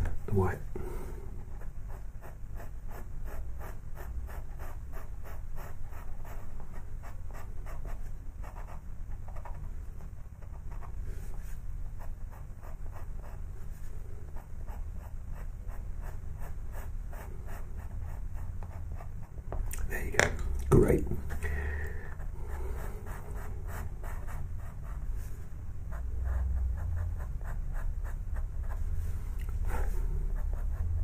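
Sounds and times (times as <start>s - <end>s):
pencil scratching on paper: 1.4s - 19.5s, 22.2s - 31.0s.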